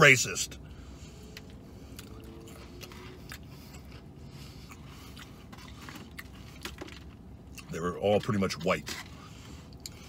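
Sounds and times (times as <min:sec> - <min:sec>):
low rumble inside car: 0:00.0 - 0:10.0
man chewing food: 0:00.7 - 0:07.7, 0:08.5 - 0:10.0.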